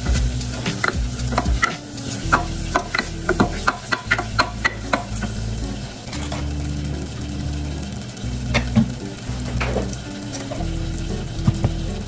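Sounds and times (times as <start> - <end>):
light sizzle: 0.0 - 12.0.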